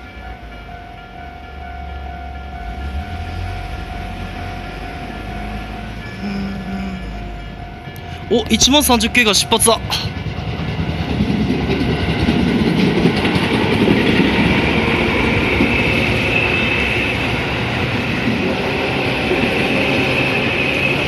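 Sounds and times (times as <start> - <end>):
train wheels rumbling over rails: 0.0 - 21.0.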